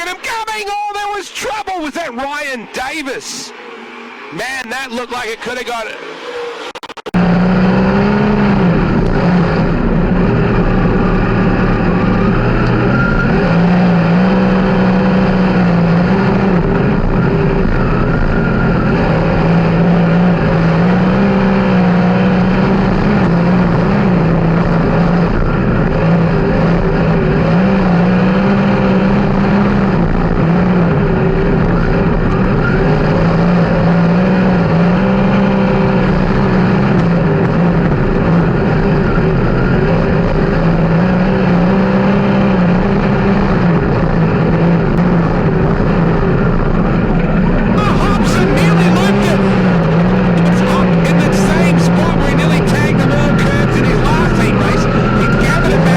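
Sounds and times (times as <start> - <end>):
race car engine running hard: 0.0 - 55.9.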